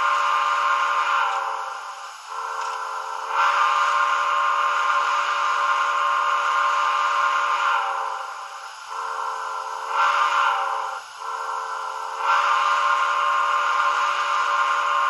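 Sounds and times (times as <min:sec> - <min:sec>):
model train whistle chime: 0:00.0 - 0:15.0.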